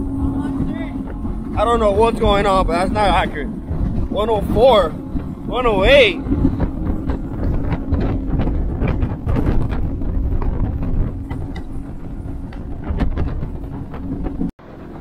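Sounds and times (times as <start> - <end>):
hull slapping on waves: 0.0 - 15.0
outboard motor running: 0.0 - 15.0
wind on microphone: 0.0 - 15.0.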